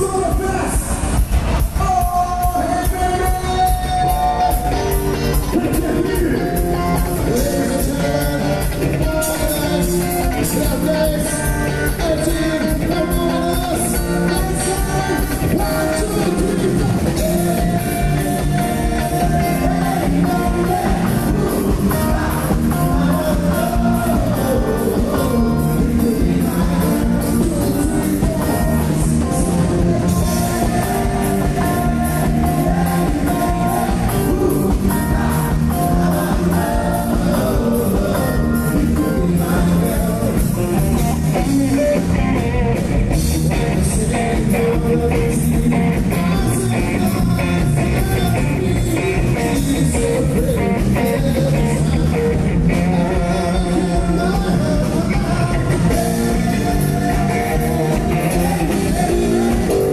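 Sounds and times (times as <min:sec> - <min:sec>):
live band playing music: 0:00.0 - 0:59.9
person singing: 0:01.8 - 0:59.9.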